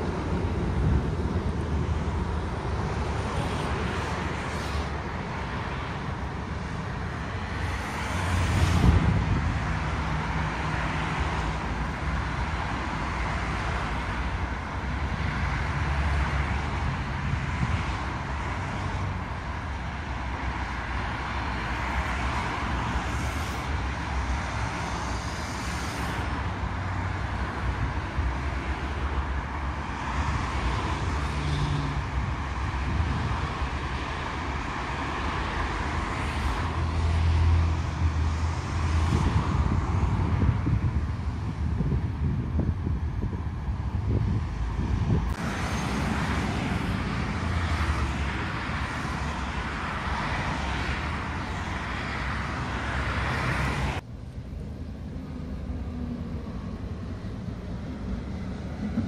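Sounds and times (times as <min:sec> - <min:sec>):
bus engine rumble: 0:00.0 - 0:59.0
cars passing: 0:00.0 - 0:59.0.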